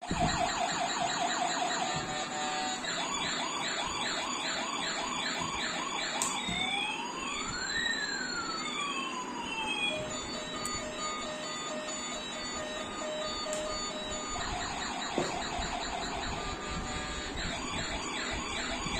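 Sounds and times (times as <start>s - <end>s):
steady beeping tone: 0.0s - 18.9s
toy siren warbling: 0.0s - 18.9s.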